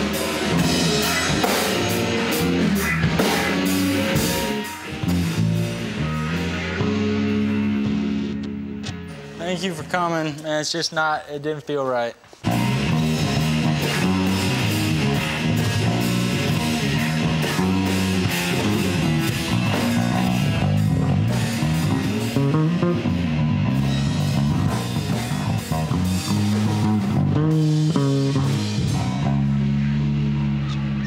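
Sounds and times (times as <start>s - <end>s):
electric guitar: 0.0s - 9.9s, 12.4s - 31.0s
drum kit beat: 0.0s - 10.4s, 12.4s - 31.0s
electric bass line: 0.0s - 10.4s, 12.4s - 31.0s.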